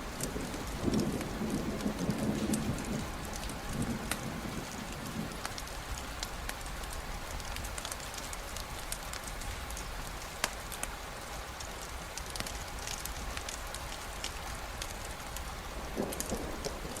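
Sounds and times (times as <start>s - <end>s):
sharp ticks of raindrops: 0.0s - 17.0s
steady rain: 0.0s - 17.0s.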